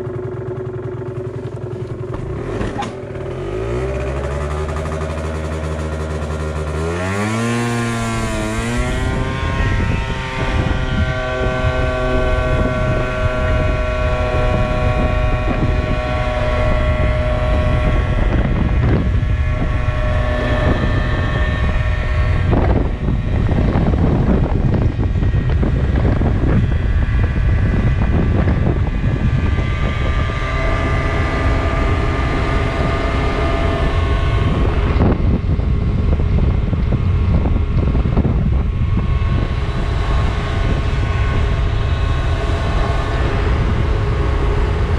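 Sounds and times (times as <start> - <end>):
scooter engine accelerating: 0.0 - 44.9
wind buffeting microphone: 0.0 - 44.9.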